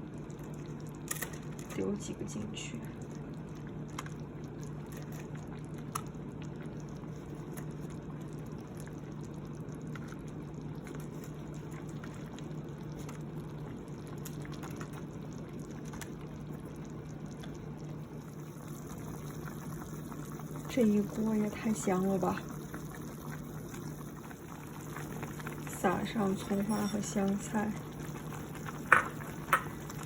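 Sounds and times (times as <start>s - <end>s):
broth bubbling at a boil: 0.0s - 30.0s
low steady hum: 0.0s - 30.0s.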